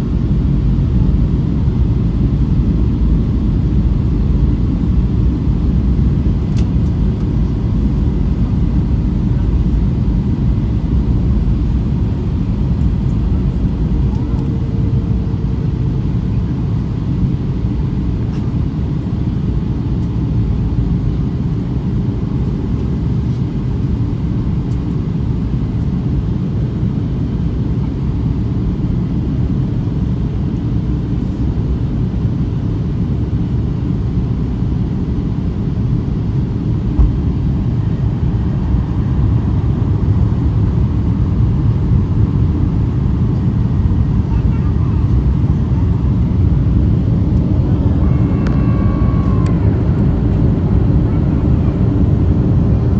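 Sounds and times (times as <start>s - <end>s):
airliner cabin jet engine rumble: 0.0s - 52.9s.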